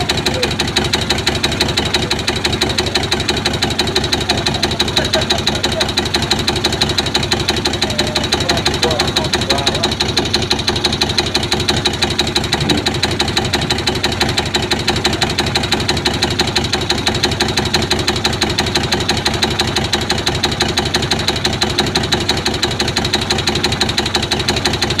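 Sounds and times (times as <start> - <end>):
diesel engine running unevenly: 0.0 - 25.0
rhythmic engine knock: 0.0 - 25.0.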